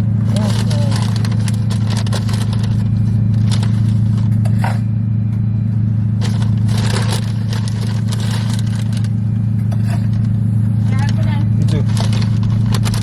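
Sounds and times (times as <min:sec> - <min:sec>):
car engine drone inside cabin: 0:00.0 - 0:13.0
rustling and scraping: 0:00.2 - 0:04.9, 0:06.2 - 0:13.0.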